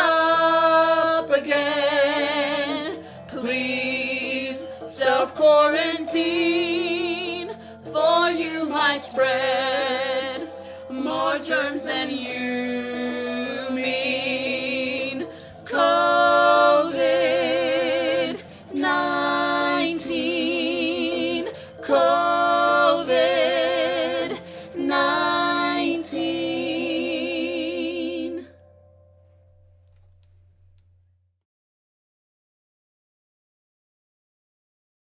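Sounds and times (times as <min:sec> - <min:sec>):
person singing with vibrato: 0:00.0 - 0:28.6.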